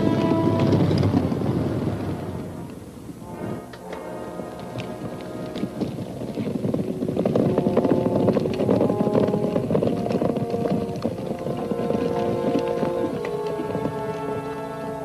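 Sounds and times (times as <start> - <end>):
background music: 0.0 - 15.0
horses galloping: 0.0 - 15.0.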